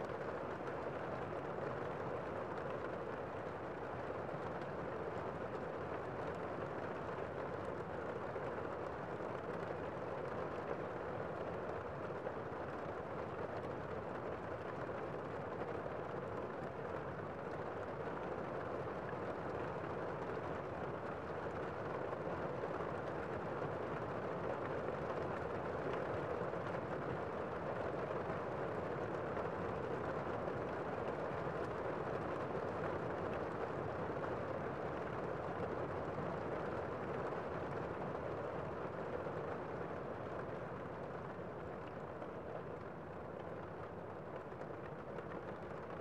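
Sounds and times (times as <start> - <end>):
rain on a window: 0.0 - 46.0.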